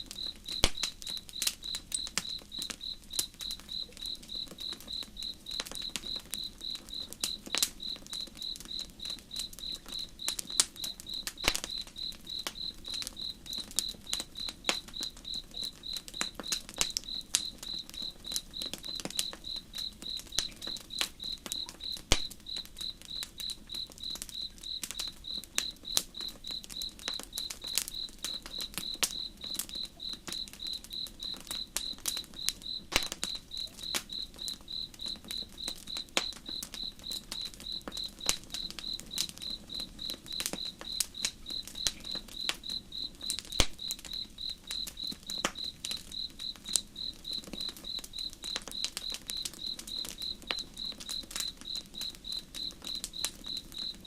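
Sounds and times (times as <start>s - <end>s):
campfire crackling and popping: 0.0s - 54.0s
cricket chirping: 0.0s - 54.0s.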